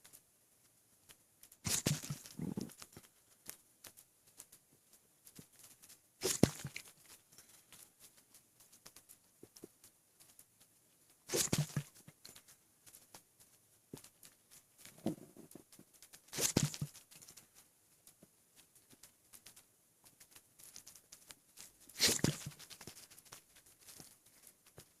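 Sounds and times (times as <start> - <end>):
faint small ticks: 0.0 - 25.0.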